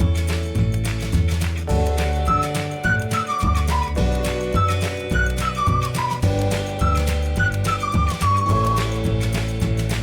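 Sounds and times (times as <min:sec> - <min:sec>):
whistled melody over a beat: 0:00.0 - 0:10.0.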